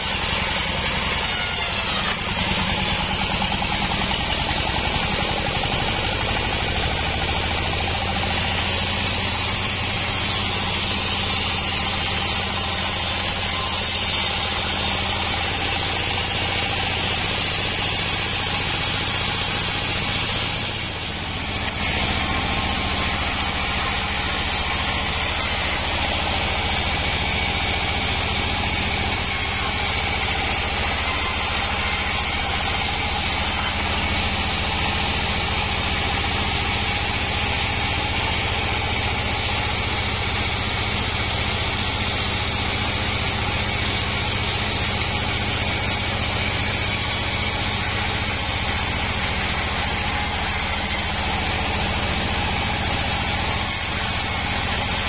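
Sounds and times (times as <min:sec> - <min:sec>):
band sawmill drone: 0:00.0 - 0:55.0.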